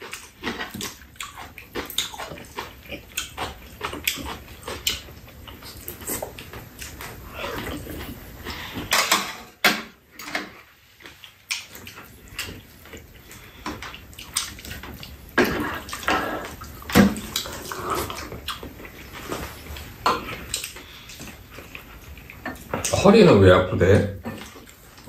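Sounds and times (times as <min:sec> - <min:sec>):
slurping and chewing: 0:00.0 - 0:09.2, 0:10.2 - 0:23.0, 0:24.2 - 0:25.0.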